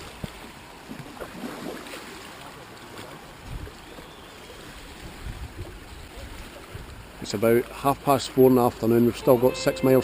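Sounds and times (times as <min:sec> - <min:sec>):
water lapping around a kayak: 0:00.0 - 0:10.0.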